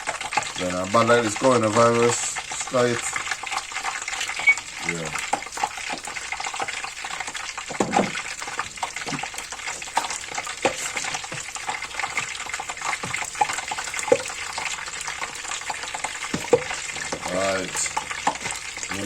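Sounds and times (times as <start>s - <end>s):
oil popping: 0.0s - 19.0s
oil sizzling in a pan: 0.0s - 19.0s.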